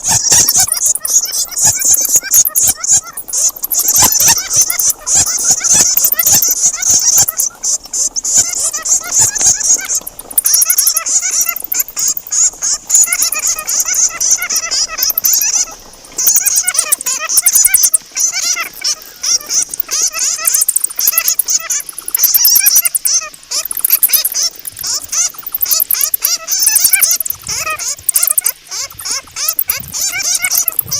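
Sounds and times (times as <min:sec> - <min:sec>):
fast ticking: 0:00.0 - 0:18.7, 0:19.4 - 0:30.9
fruit bats squeaking and chattering: 0:00.0 - 0:30.9.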